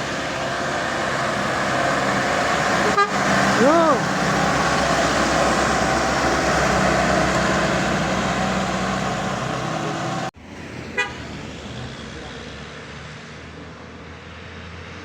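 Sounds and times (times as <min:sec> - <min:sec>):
heavy truck engine running: 0:00.0 - 0:15.0
road noise: 0:00.0 - 0:15.0.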